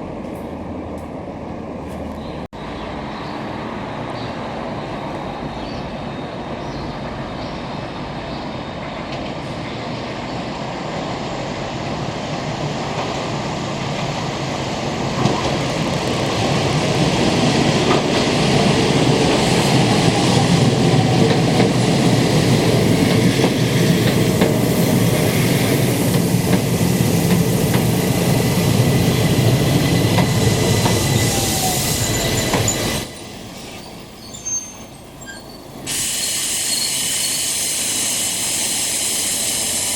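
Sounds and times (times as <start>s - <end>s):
electric train on rails: 0.0s - 39.9s.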